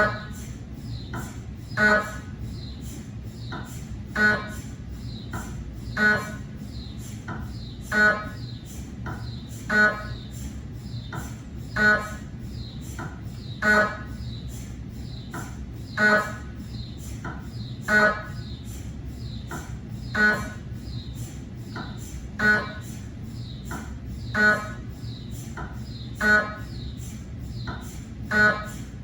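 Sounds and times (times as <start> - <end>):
buzzing pulse: 0.0 - 29.0
mri scanner knocking: 0.0 - 29.0.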